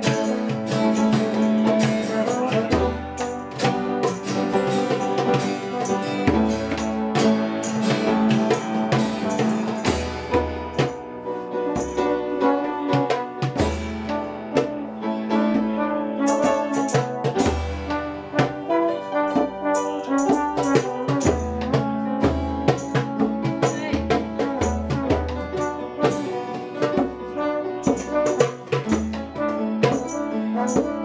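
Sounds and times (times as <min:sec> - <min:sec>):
percussion beat: 0:00.0 - 0:12.2, 0:12.8 - 0:14.9, 0:15.6 - 0:31.0
small band playing live: 0:00.0 - 0:31.0
trombone: 0:00.0 - 0:31.0.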